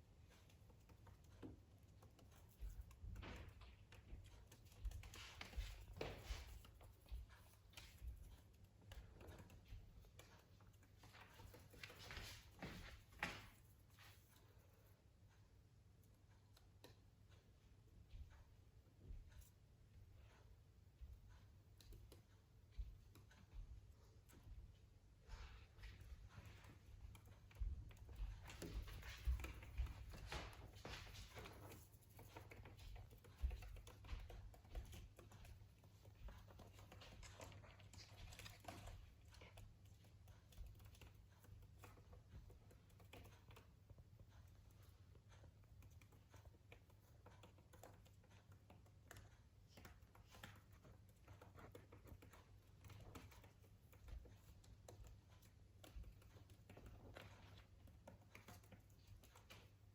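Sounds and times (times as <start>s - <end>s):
light clicks and taps: 0.0s - 59.9s.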